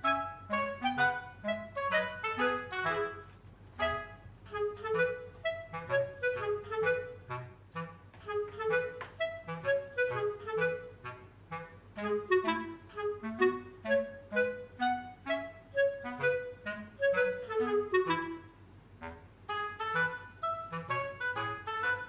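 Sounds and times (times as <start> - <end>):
lively instrumental music: 0.0 - 18.4, 19.5 - 22.0.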